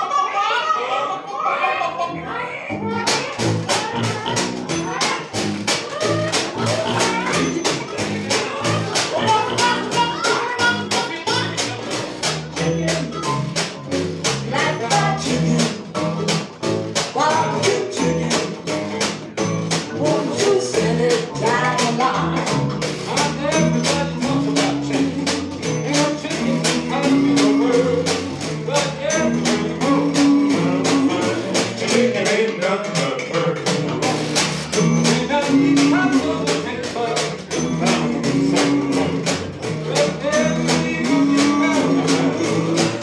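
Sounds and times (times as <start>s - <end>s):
upright bass walking: 2.1s - 43.0s
steady percussion beat: 3.0s - 43.0s.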